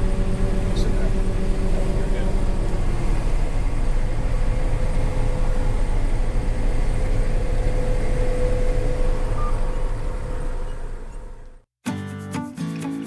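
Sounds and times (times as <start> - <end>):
combine harvester running: 0.0 - 11.7.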